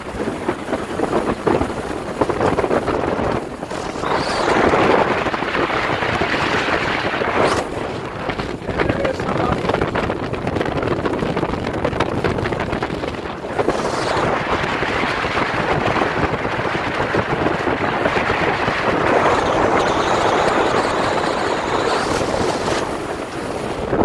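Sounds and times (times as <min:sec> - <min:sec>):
boat engine drone: 0:00.0 - 0:24.0
wind buffeting microphone: 0:00.0 - 0:24.0
water rushing: 0:01.5 - 0:09.7, 0:12.5 - 0:24.0.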